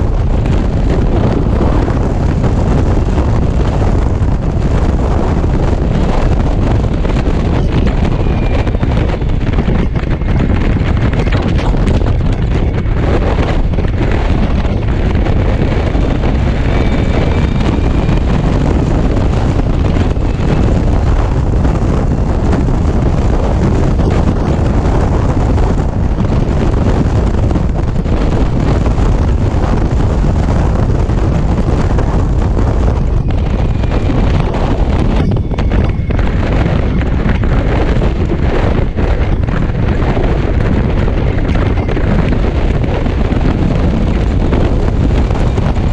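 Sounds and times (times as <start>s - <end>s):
tyre and road noise: 0.0s - 45.9s
wind buffeting microphone: 0.0s - 45.9s.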